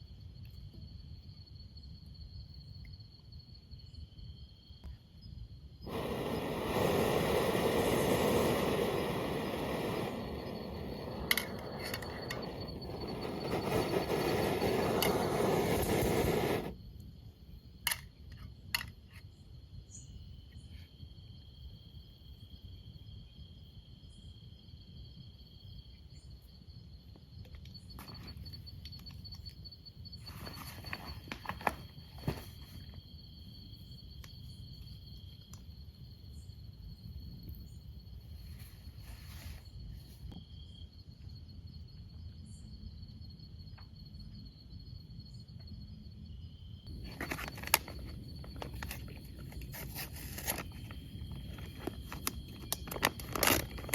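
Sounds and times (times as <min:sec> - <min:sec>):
insects high-pitched drone: 0:00.0 - 0:53.9.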